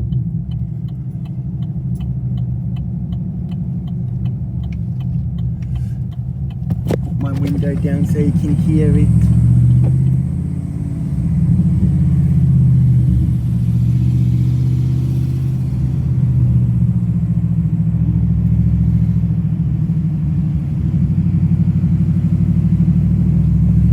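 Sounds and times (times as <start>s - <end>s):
car engine running while driving: 0.0s - 23.9s.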